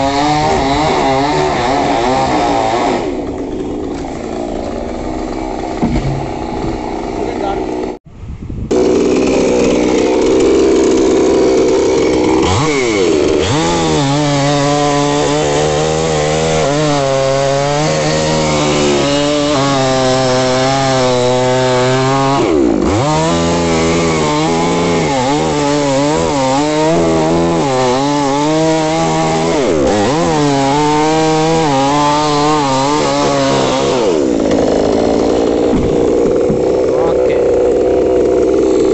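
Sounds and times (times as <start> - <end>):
chainsaw cutting wood: 0.0 - 8.0, 8.7 - 38.9.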